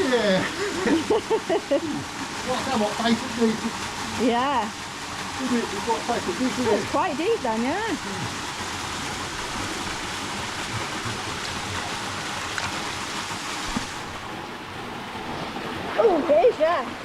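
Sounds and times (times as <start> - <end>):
waterfall pouring into pool: 0.0 - 17.0.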